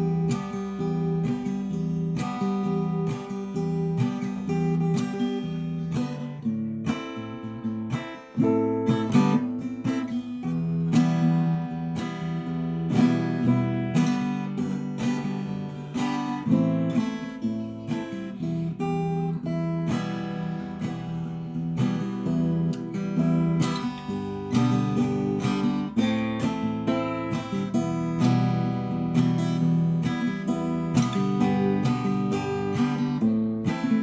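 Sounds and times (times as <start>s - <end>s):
fingerstyle acoustic guitar: 0.0s - 34.0s.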